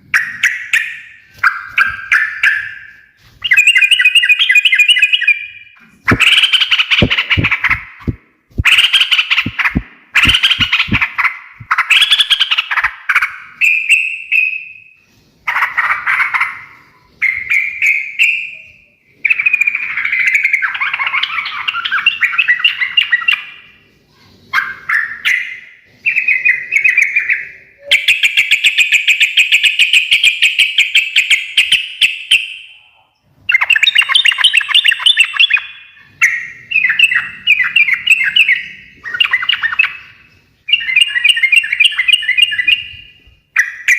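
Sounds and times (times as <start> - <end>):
bird chattering song: 0.2 - 14.9, 15.5 - 23.7, 24.5 - 43.9.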